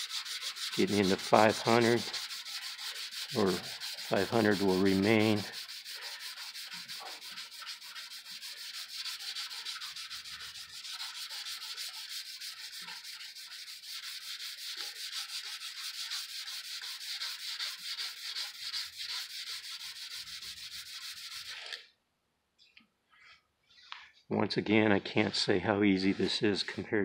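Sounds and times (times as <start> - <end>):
sandpaper rubbing on clearcoat: 0.0 - 21.8.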